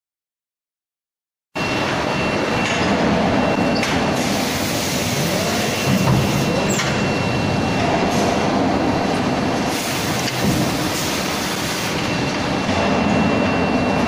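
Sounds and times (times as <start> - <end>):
thin high whine: 1.6 - 14.0.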